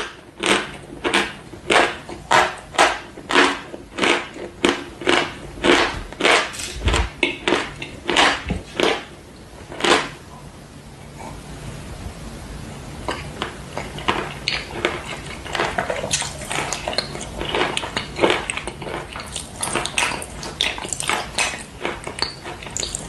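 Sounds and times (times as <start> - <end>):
chalk chewing crunches: 0.0 - 10.2, 13.1 - 23.0.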